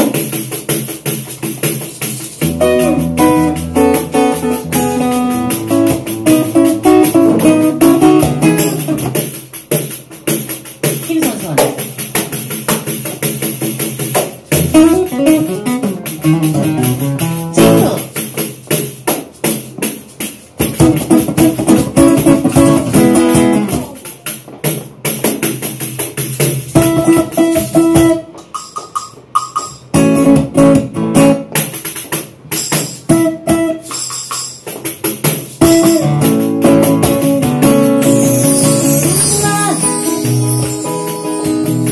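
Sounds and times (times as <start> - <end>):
guitar playing: 0.0 - 10.8, 11.9 - 25.3, 26.6 - 41.9
percussion beat: 0.0 - 41.9.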